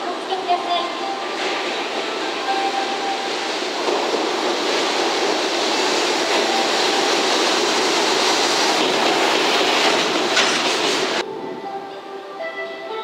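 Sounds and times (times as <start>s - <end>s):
freight train passing at speed: 0.0s - 13.0s.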